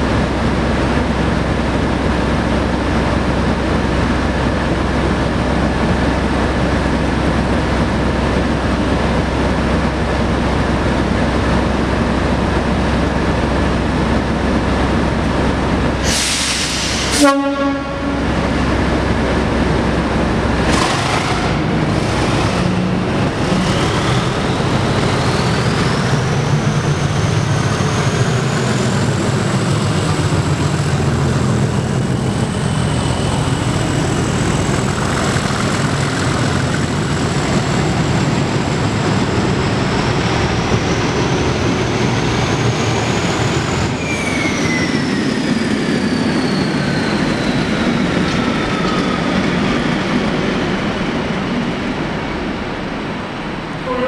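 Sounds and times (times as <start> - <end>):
diesel locomotive engines running: 0.0 - 54.0.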